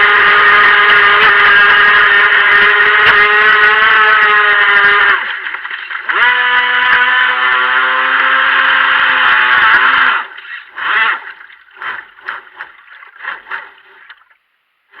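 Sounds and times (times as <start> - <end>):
electric motor whining: 0.0 - 13.8.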